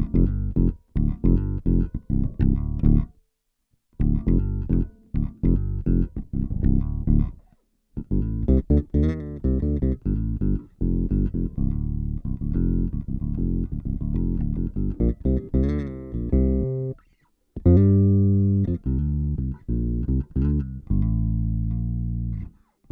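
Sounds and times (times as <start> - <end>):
electric bass with octave effect: 0.0 - 3.2, 4.0 - 22.9.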